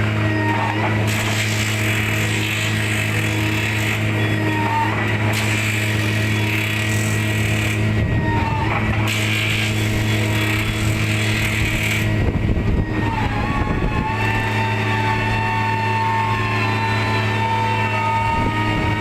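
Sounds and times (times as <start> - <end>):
heavy machine engine running: 0.0 - 19.0
steady high whine: 0.0 - 19.0.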